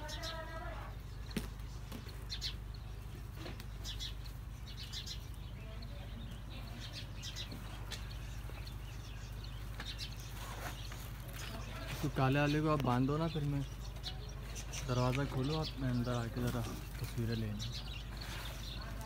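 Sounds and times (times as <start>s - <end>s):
bird chirps: 0.0s - 19.0s
steady low hum: 0.0s - 19.0s.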